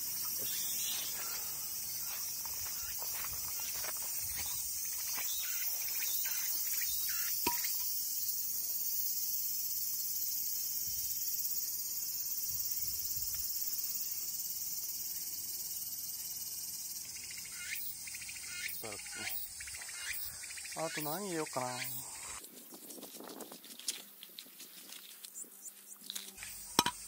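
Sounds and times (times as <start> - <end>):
cicadas singing: 0.0 - 27.0.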